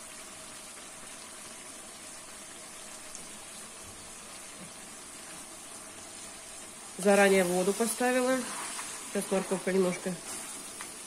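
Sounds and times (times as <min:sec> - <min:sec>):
meat and vegetables sizzling: 0:00.0 - 0:11.0.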